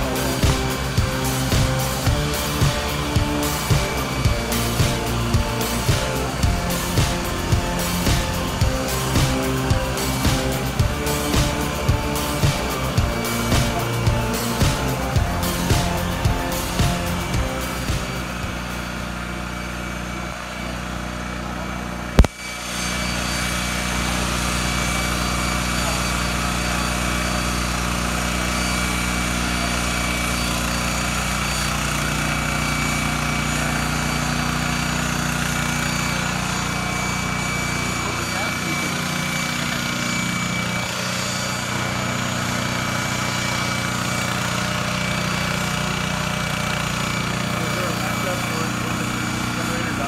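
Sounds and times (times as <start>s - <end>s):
helicopter hovering hum: 0.0s - 50.0s
high whine: 0.0s - 50.0s.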